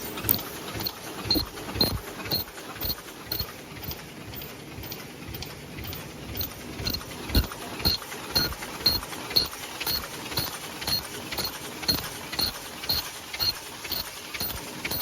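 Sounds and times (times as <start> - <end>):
heavy mechanical knock: 0.0 - 15.0
machine rhythmic clatter: 0.0 - 15.0.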